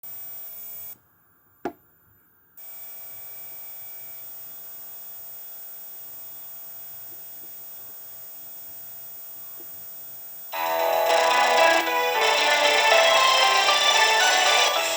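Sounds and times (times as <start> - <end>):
electrical hum and buzz: 0.1 - 14.7.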